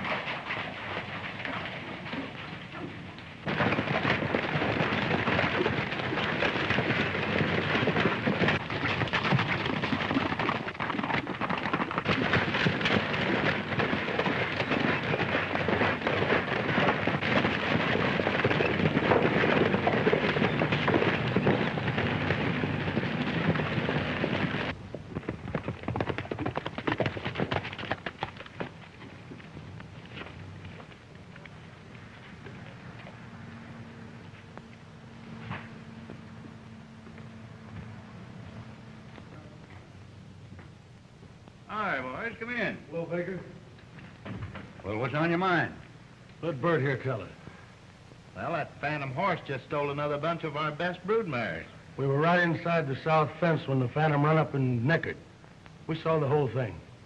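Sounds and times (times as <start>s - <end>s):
horses galloping: 0.0s - 57.0s.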